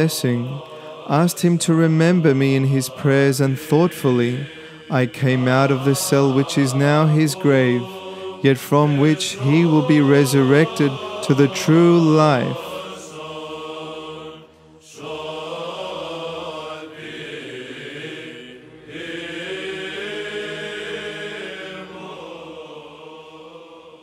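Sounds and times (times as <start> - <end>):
chant with sustained sung notes: 0.0 - 24.0.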